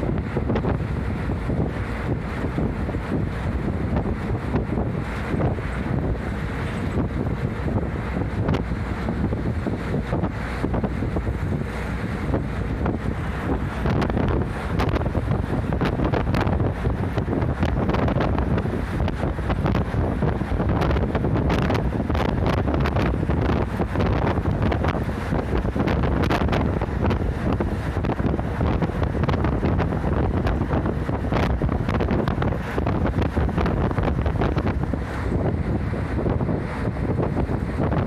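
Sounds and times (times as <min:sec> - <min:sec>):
bus engine and road noise: 0:00.0 - 0:38.0
wind buffeting microphone: 0:00.0 - 0:38.0.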